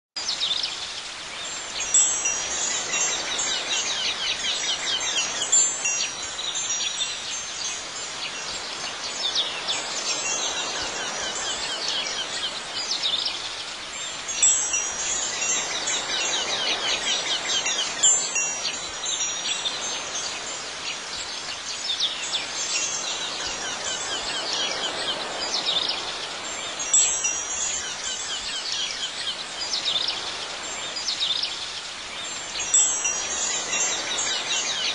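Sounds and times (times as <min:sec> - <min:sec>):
wind chimes ringing: 0:01.4 - 0:13.2, 0:14.0 - 0:31.4, 0:32.2 - 0:34.9.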